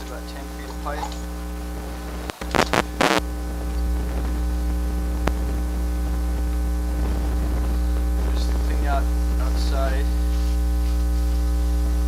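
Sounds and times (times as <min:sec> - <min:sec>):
electrical mains hum: 0:00.0 - 0:12.0
static crackle bursts: 0:00.0 - 0:12.0.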